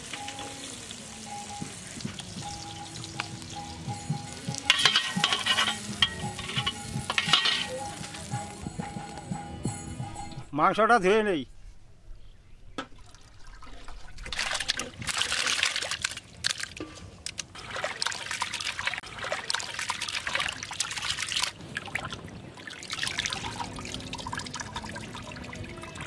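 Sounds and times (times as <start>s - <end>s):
water splashing and sloshing in pot: 0.0s - 8.1s, 12.8s - 26.0s
water trickling: 0.0s - 8.5s, 12.9s - 26.0s.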